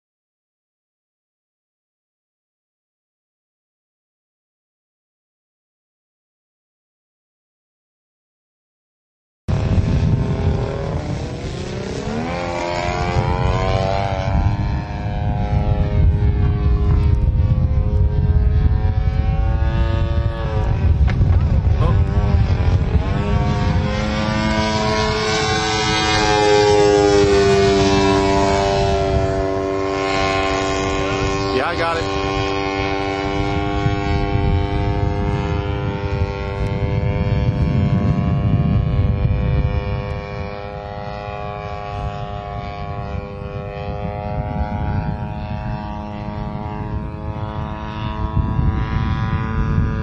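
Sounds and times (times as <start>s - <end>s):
model airplane motor running: 9.5s - 50.0s
wind rumble on microphone: 9.5s - 50.0s.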